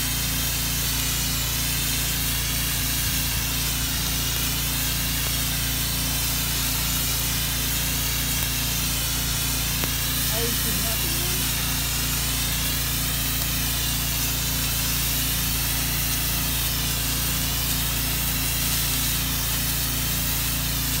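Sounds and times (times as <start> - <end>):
pressure washer jet hissing: 0.0 - 21.0.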